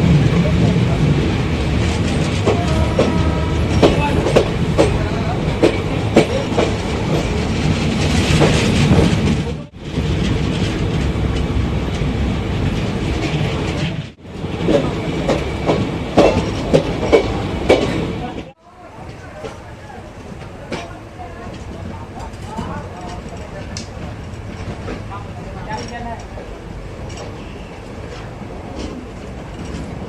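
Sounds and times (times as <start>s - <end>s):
train coaches rumbling: 0.0s - 30.0s
wheels clattering over rail joints: 0.4s - 30.0s.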